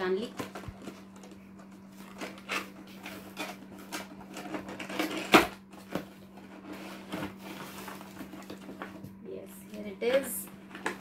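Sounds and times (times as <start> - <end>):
steady low hum: 0.0 - 11.0
cardboard and plastic scraping: 0.2 - 9.2.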